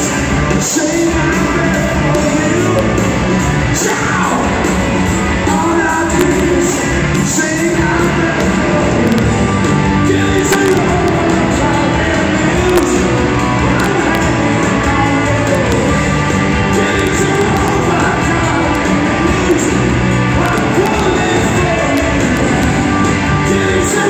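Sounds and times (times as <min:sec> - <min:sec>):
lead vocal singing: 0:00.0 - 0:24.0
live rock band playing: 0:00.0 - 0:24.0.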